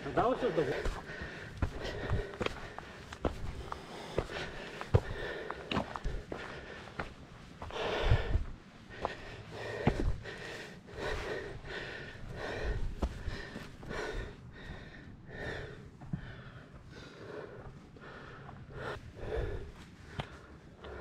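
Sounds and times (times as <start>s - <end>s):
person breathing hard: 0.4s - 21.0s.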